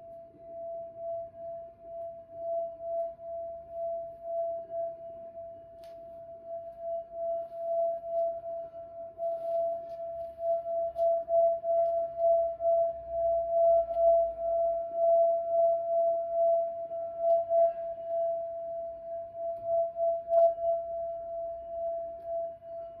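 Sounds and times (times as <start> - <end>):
singing bowl held tone: 0.0 - 23.0.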